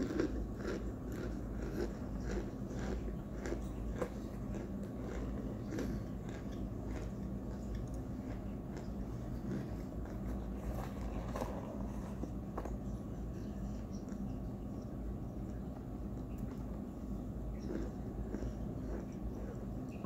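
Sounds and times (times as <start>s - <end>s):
person chewing crunchy food: 0.0s - 14.4s, 16.2s - 20.0s.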